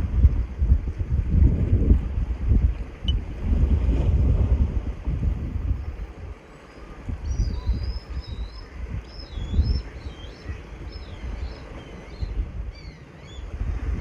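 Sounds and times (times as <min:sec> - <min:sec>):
wind and surf rumble: 0:00.0 - 0:14.0.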